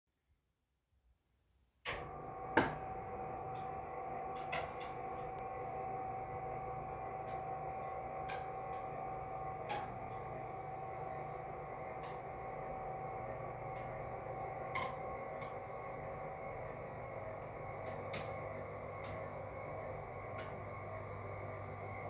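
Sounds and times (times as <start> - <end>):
electric motor humming: 2.0 - 22.0.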